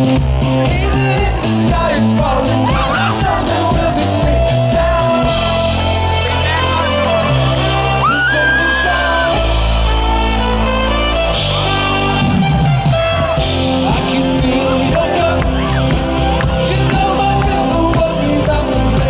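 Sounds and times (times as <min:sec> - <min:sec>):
bass: 0:00.0 - 0:19.0
drums: 0:00.0 - 0:19.0
person singing: 0:00.5 - 0:10.3, 0:13.5 - 0:19.0.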